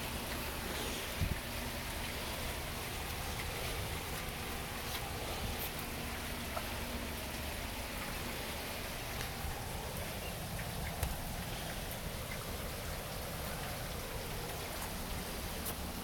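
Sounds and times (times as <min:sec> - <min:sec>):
rain hissing on surfaces: 0:00.0 - 0:16.0
raindrop ticks: 0:00.0 - 0:16.0.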